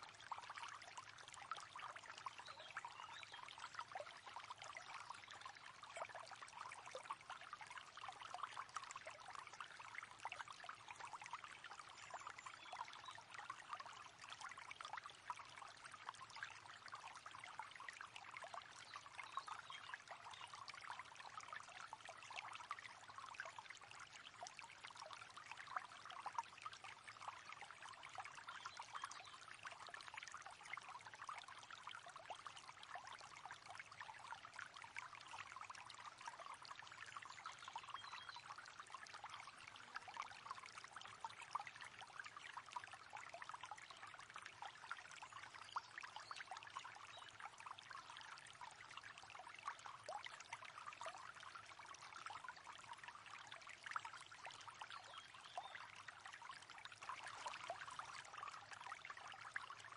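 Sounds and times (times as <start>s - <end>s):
river water babbling: 0.1s - 59.9s.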